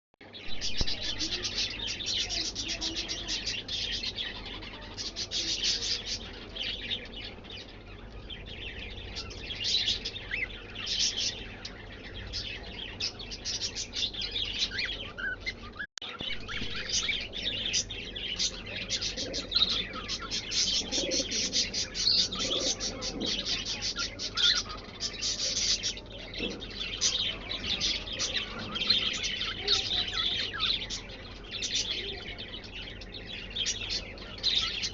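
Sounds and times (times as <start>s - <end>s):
pet birds chirping: 0.2s - 34.9s.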